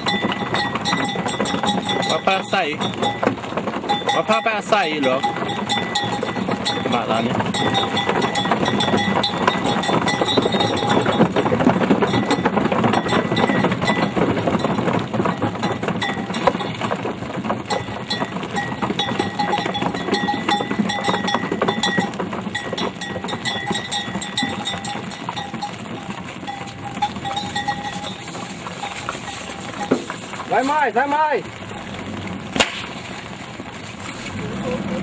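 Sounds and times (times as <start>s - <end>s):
cowbell ringing: 0.0s - 16.9s, 17.6s - 30.7s
cattle hooves clattering: 0.0s - 35.0s.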